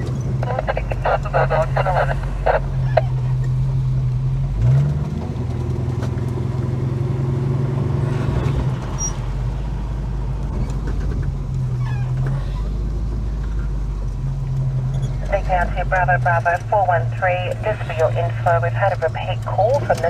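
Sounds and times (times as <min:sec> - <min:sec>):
car engine running inside cabin: 0:00.0 - 0:20.0.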